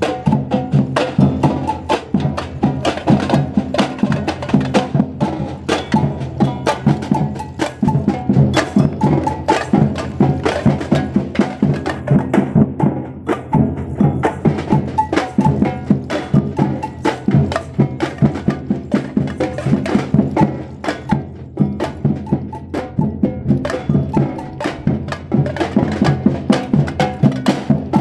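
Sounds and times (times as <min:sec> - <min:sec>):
drum group playing fast rhythm: 0:00.0 - 0:28.0.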